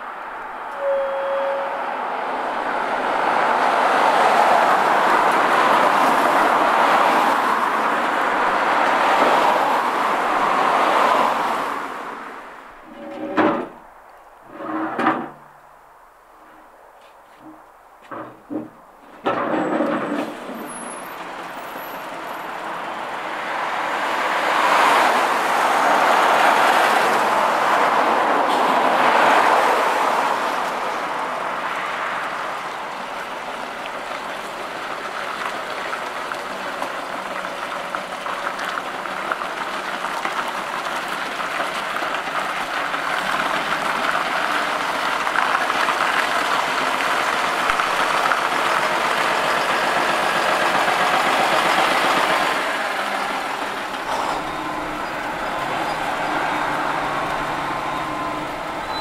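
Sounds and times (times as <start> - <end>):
lorry diesel engine: 0.0 - 15.5, 17.3 - 59.0
tyres on a wet road: 0.0 - 59.0.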